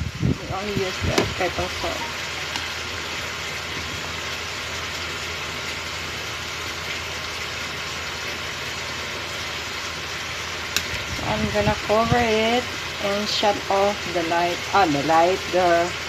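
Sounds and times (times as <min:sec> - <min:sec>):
gas stove hissing: 0:00.0 - 0:16.0.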